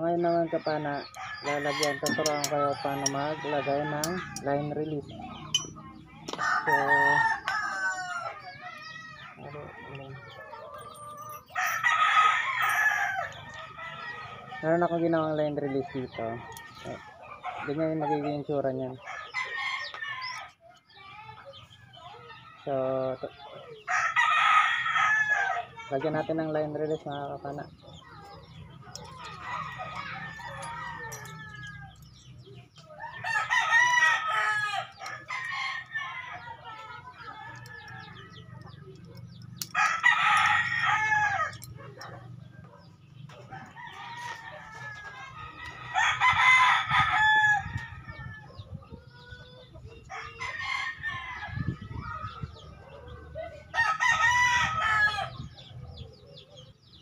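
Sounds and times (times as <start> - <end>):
roosters crowing: 0.0 - 56.7.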